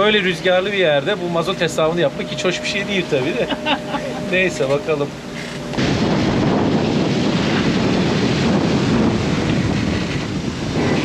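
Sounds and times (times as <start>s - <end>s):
sea water rushing: 0.0s - 11.0s
wind buffeting microphone: 0.0s - 11.0s.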